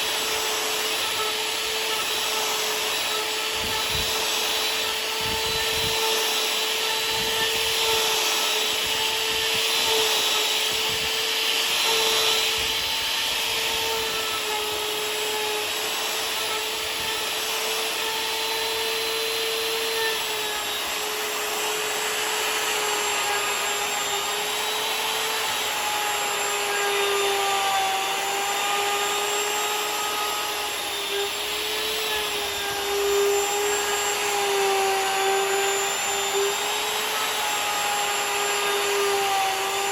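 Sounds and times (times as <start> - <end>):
electric router motor whine: 0.0 - 39.9
router bit cutting wood: 0.0 - 39.9.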